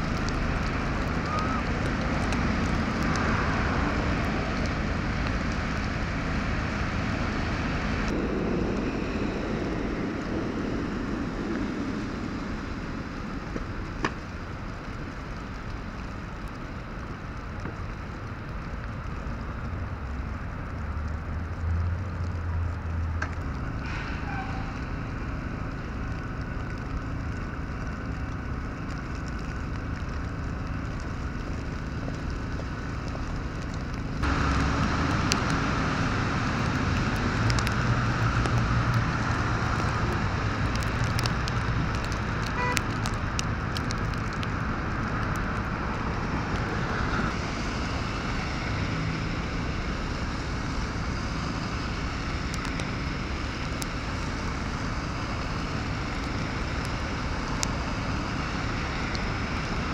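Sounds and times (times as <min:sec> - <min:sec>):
low engine drone: 0:00.0 - 0:59.9
road traffic hum: 0:00.0 - 0:59.9.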